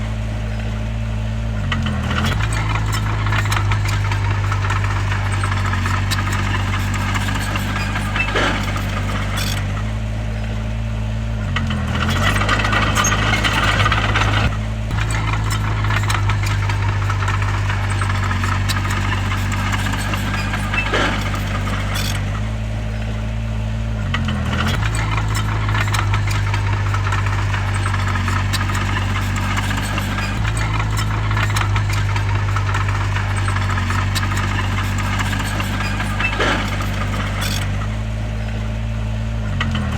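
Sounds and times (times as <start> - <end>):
bulldozer diesel engine under load: 0.0 - 39.9
clattering: 1.7 - 10.4, 11.6 - 22.5, 24.2 - 38.7.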